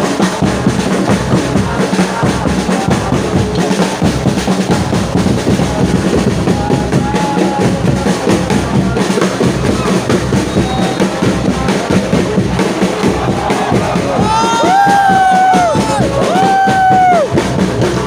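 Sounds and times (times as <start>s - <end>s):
stadium crowd chanting: 0.0s - 16.6s
drums beating: 0.0s - 18.0s.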